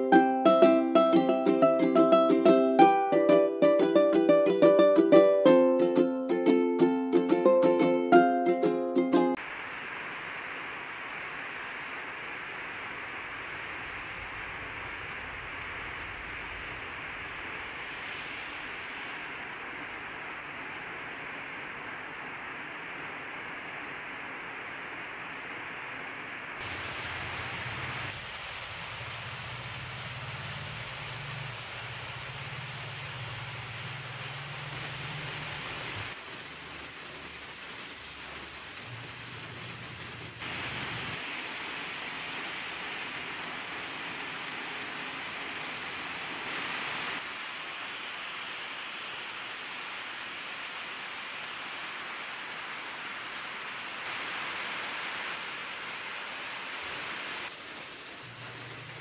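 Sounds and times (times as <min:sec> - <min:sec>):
steady rain falling: 0:09.3 - 0:59.0.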